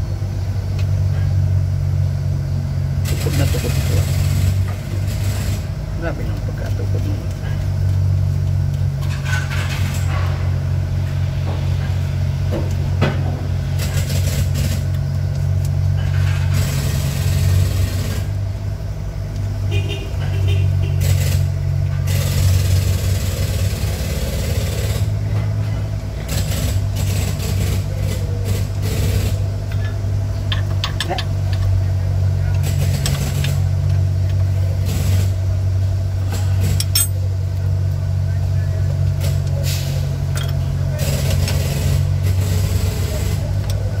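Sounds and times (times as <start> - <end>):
engine idling: 0.0 - 44.0.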